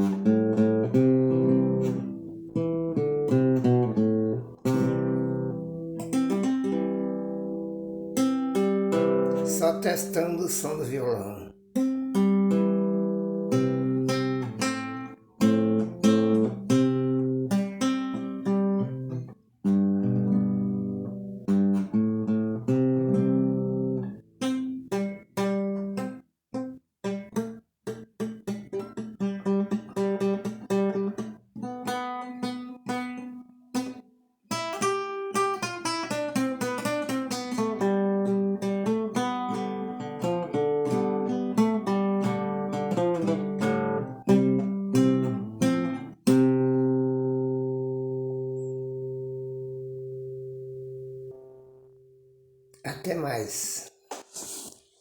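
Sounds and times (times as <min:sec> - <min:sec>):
acoustic guitar playing: 0:00.0 - 0:54.4.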